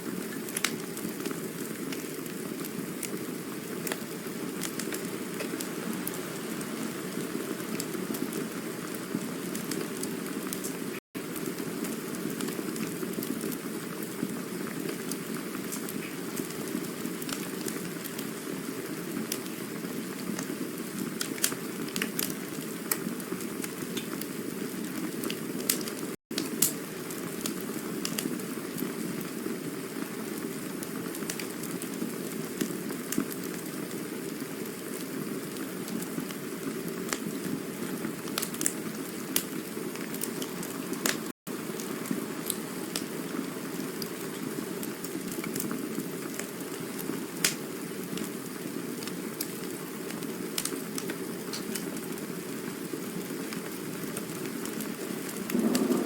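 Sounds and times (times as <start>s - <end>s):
campfire crackling and hissing: 0.0s - 56.0s.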